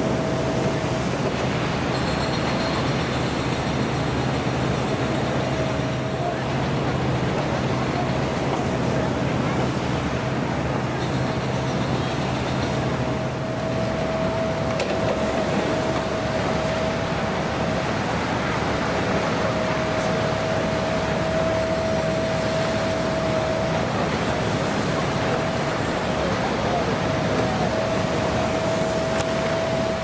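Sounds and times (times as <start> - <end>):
surf: 0.0 - 30.0
thin steady tone: 0.0 - 30.0
wind: 0.0 - 30.0.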